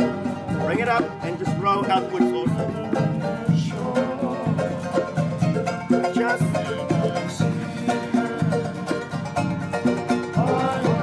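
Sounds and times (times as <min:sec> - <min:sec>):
plucked-string band music: 0:00.0 - 0:11.0.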